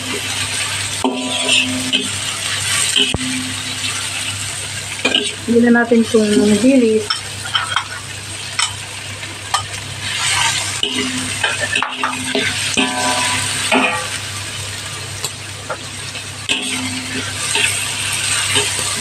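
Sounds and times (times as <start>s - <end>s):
low steady hum: 0.0s - 18.0s
food sizzling in hot oil: 0.0s - 19.0s.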